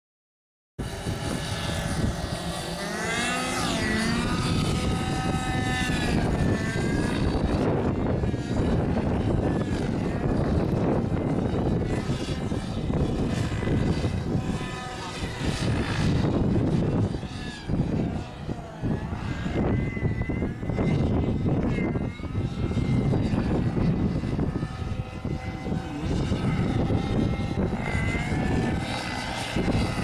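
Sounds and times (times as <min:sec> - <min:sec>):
rc helicopter engine and rotor whine: 0:00.8 - 0:30.0
wind noise on microphone: 0:00.8 - 0:30.0.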